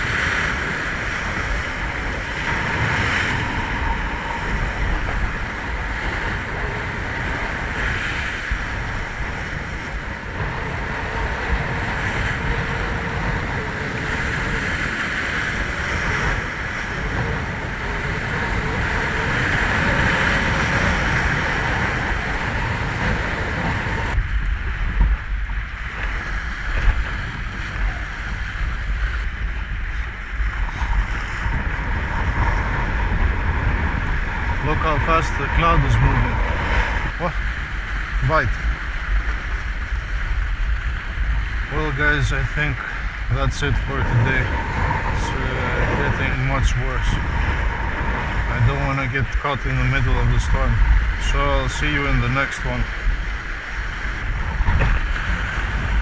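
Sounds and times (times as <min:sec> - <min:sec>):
surf breaking on rocks: 0:00.0 - 0:56.0
wind buffeting microphone: 0:00.0 - 0:56.0.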